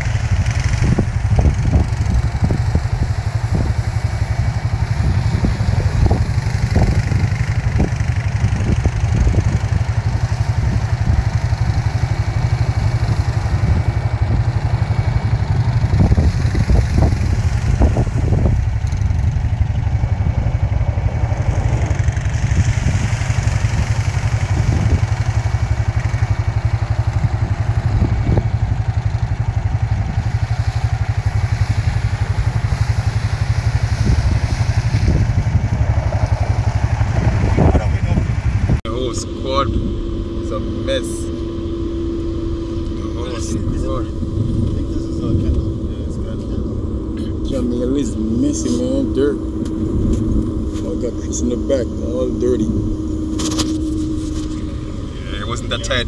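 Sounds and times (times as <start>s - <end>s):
churning through mud and water: 0.0s - 56.0s
quad engine running: 0.0s - 56.0s
wind rumble on microphone: 0.0s - 56.0s.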